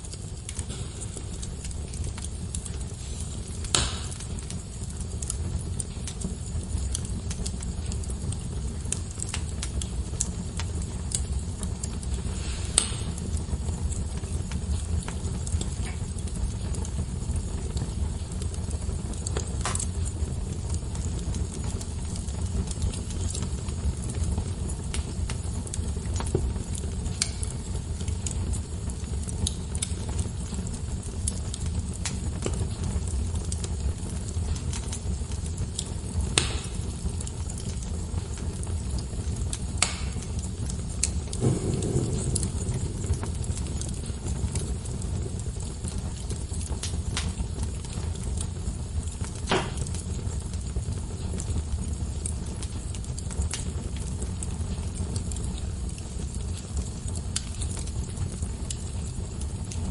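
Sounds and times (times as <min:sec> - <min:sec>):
fire crackles and pops: 0:00.0 - 0:59.9
fire flames rumbling: 0:00.0 - 0:59.9.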